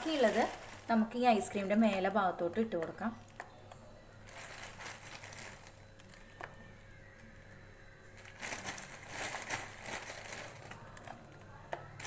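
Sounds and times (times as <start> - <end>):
crushed praline crackling rustle: 0.0 - 12.0.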